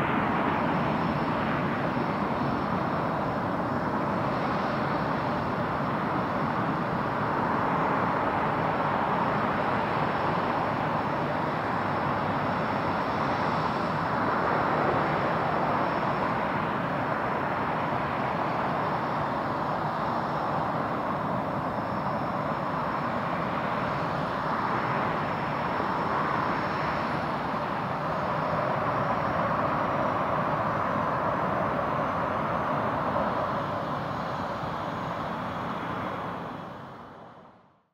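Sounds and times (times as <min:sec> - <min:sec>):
jet engines at climb power: 0:00.0 - 0:37.9.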